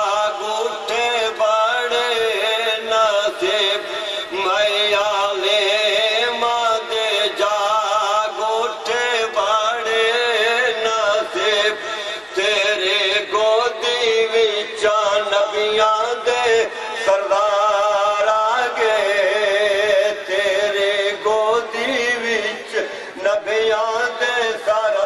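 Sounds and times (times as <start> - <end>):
man singing: 0.0 - 25.0.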